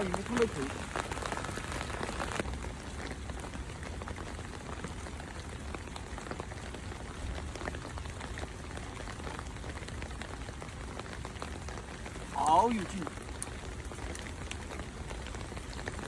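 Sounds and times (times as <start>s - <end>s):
raindrop taps: 0.0s - 16.0s
steady rain hiss: 0.0s - 16.0s.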